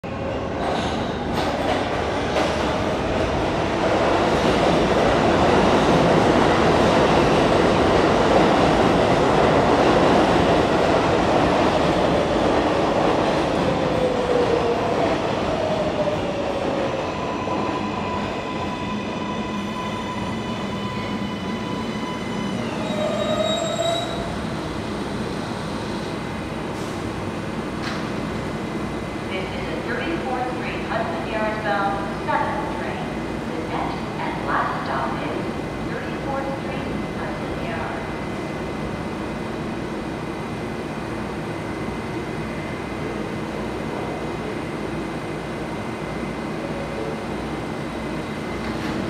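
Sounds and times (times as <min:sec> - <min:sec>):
subway train wheels rumbling: 0:00.0 - 0:49.0.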